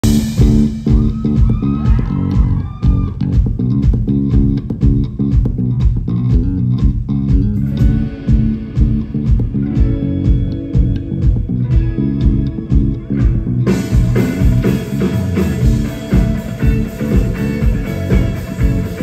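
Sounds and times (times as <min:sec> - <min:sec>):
electric bass: 0:00.0 - 0:19.0
live band playing: 0:00.0 - 0:19.0.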